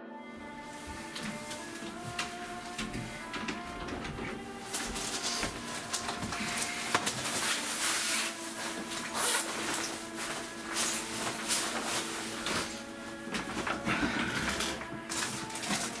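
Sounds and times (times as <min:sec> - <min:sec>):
jacket fabric rustling: 0:00.2 - 0:16.0.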